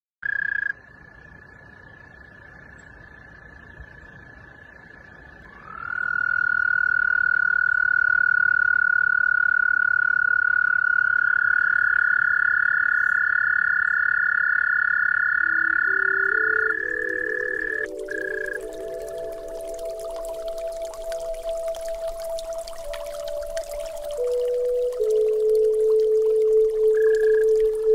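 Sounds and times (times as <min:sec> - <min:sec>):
high-pitched frog calls: 0:00.2 - 0:27.9.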